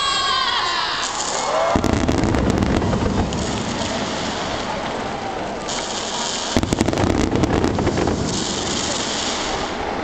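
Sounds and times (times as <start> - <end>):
firework shells bursting: 1.0 - 9.9
rumbling crackle: 1.0 - 10.0.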